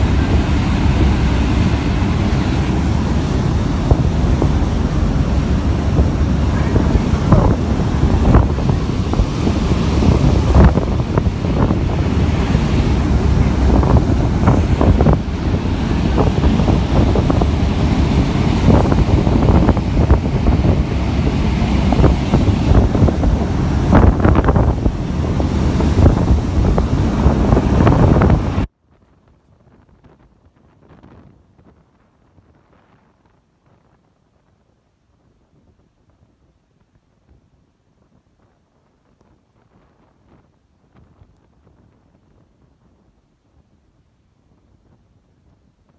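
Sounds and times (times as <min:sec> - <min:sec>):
boat wake rushing: 0:00.0 - 0:45.9
wind buffeting microphone: 0:00.0 - 0:45.9.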